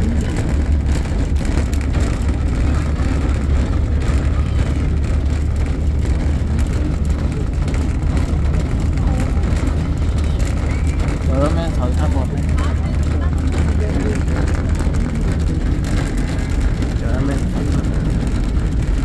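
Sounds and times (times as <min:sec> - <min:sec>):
road train rumbling: 0:00.0 - 0:19.0.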